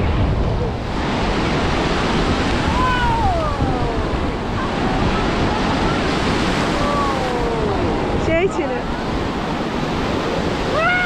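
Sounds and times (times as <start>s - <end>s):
sea waves breaking: 0.0s - 11.0s
wind buffeting microphone: 0.0s - 11.0s.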